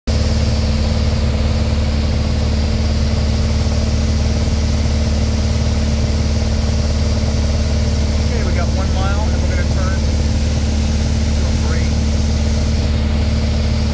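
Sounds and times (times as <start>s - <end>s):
airplane engine and propeller drone: 0.1s - 13.9s.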